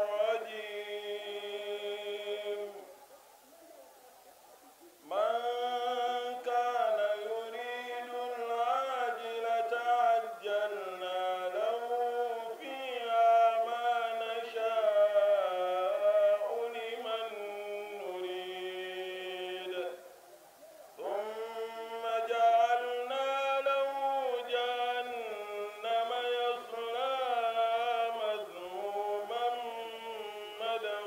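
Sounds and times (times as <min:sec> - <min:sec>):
man chanting into microphone: 0:00.0 - 0:02.9, 0:05.1 - 0:20.0, 0:21.0 - 0:31.0.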